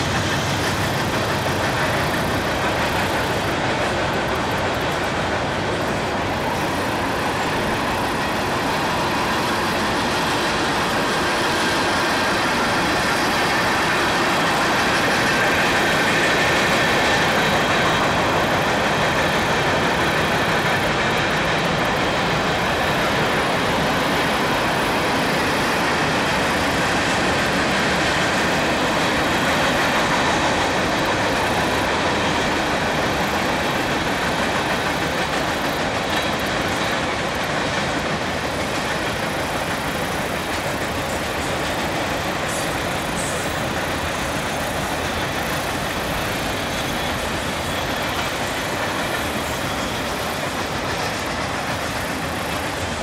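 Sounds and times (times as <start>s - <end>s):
freight train wheels on rails: 0.0s - 53.0s.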